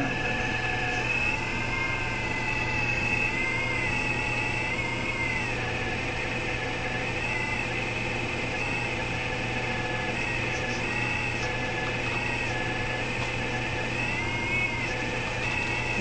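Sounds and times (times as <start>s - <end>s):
model excavator whine: 0.0s - 16.0s.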